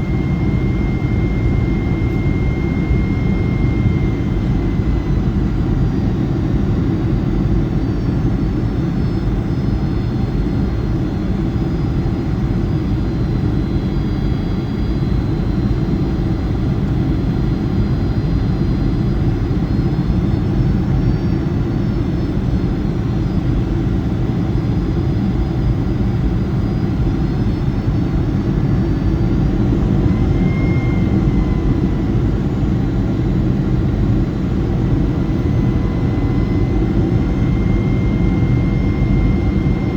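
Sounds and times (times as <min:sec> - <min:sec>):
jet engines heard from cabin: 0:00.0 - 0:39.9.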